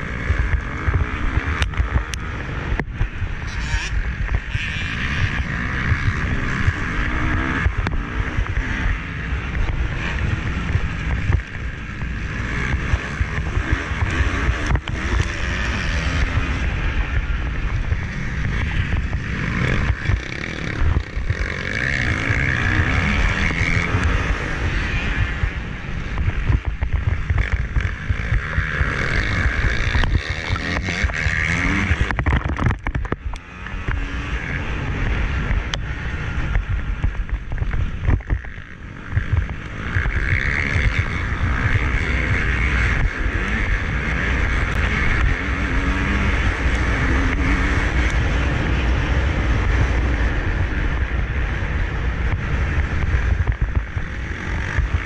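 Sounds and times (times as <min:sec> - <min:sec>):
motocross engine revving: 0:00.0 - 0:55.0
wind buffeting microphone: 0:00.0 - 0:55.0.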